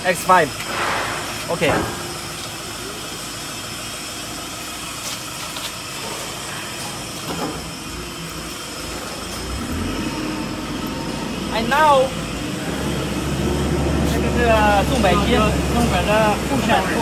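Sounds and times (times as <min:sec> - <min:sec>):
mechanical running noise with hiss: 0:00.0 - 0:17.0.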